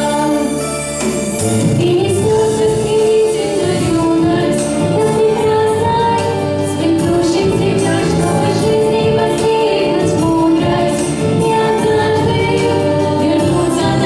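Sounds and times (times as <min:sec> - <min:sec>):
instrumental accompaniment: 0:00.0 - 0:14.0
vocal ensemble singing: 0:00.0 - 0:14.0.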